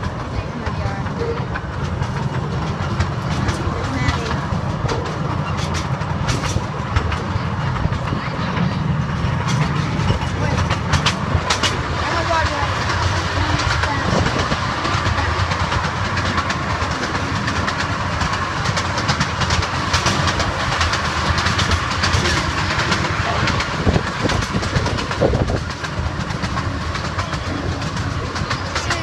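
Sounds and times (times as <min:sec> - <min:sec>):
tram rumbling: 0:00.0 - 0:29.0.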